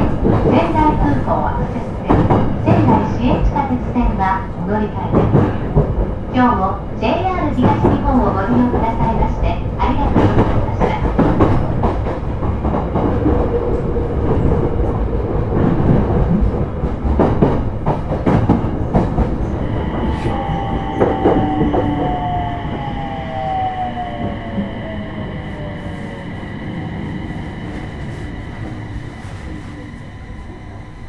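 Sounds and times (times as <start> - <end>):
train running noise: 0.0 - 31.0.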